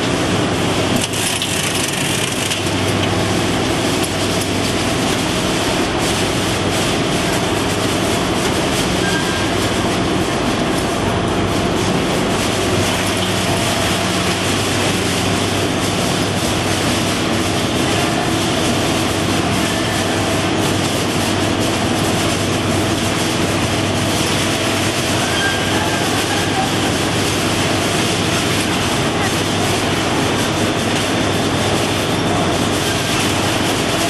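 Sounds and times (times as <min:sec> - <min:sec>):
conveyor machinery running: 0:00.0 - 0:34.0.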